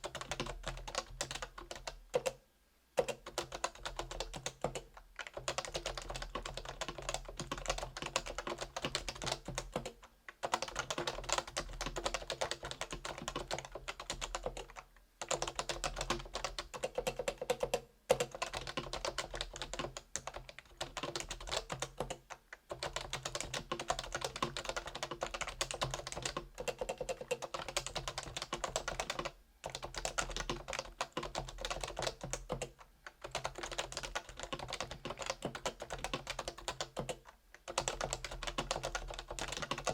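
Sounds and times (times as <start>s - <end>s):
typing on a keyboard: 0.0s - 2.4s, 3.0s - 39.9s.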